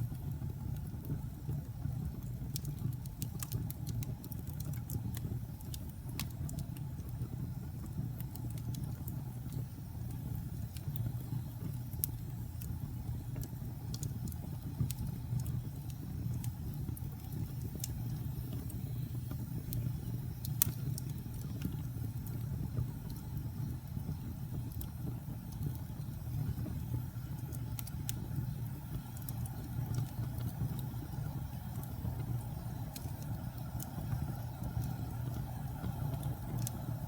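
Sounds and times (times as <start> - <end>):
fire crackling and popping: 0.0 - 37.0
fire rumbling: 0.0 - 37.0.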